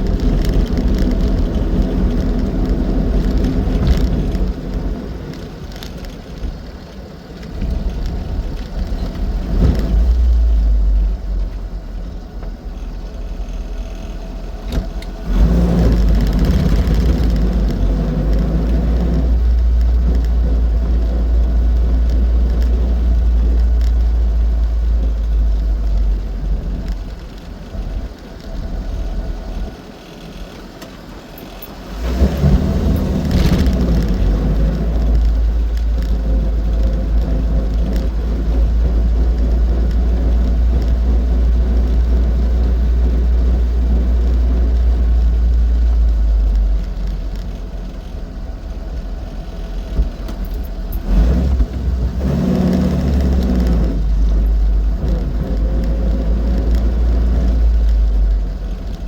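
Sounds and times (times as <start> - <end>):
road and driving rumble: 0.0 - 59.0
small car engine running: 0.0 - 59.0.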